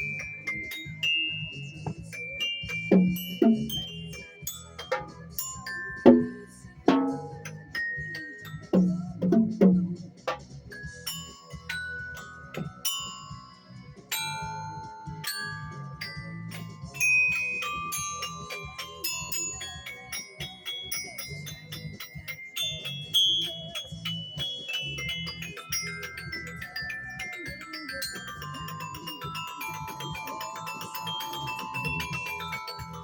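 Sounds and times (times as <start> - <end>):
mallet percussion notes: 0.0 - 33.0.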